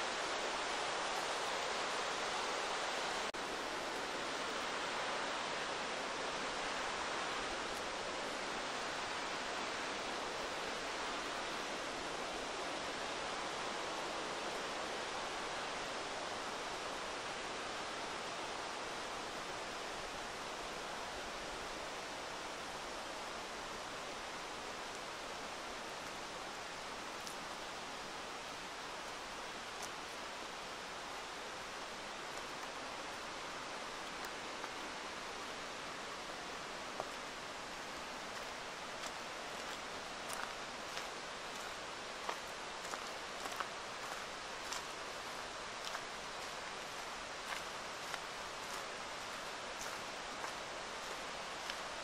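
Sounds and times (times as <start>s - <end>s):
river flowing over rocks: 0.0s - 52.0s.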